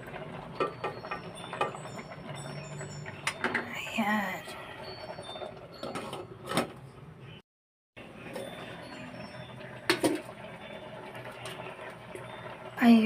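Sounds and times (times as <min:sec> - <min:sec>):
soup simmering: 0:00.0 - 0:06.4, 0:08.0 - 0:13.0.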